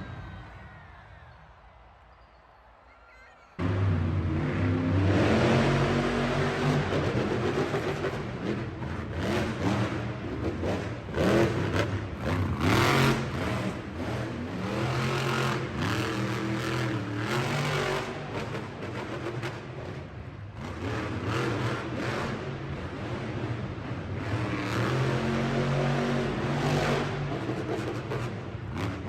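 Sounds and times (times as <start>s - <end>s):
truck engine revving: 3.6s - 29.0s.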